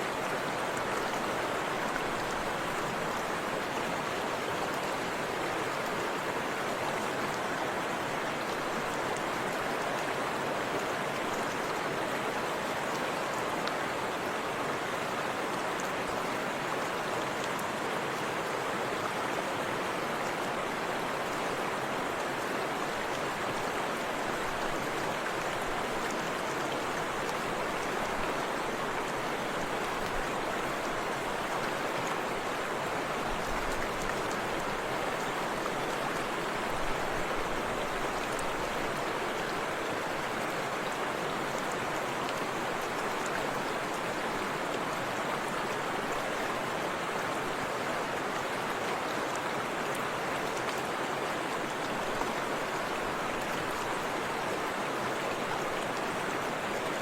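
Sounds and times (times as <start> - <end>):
river water rushing and splashing: 0.0 - 57.0.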